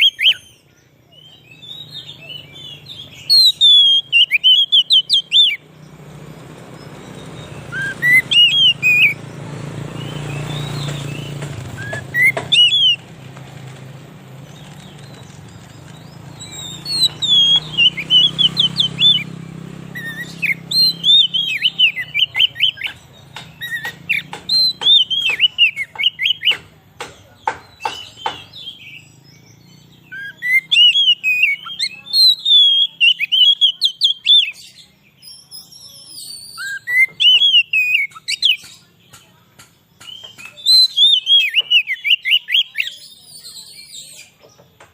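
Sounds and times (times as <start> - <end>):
bird singing whistled phrases: 0.0 - 5.8, 6.8 - 13.1, 14.5 - 26.6, 27.7 - 38.8, 40.0 - 44.4.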